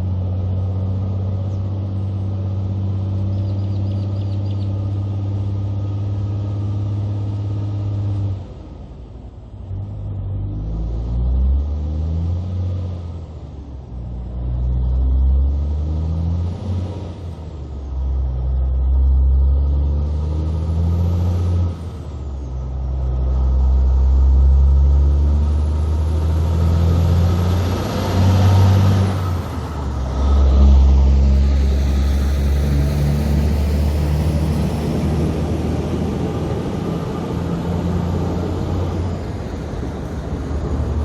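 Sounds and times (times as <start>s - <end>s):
diesel truck engine pulling away: 0.0s - 41.0s.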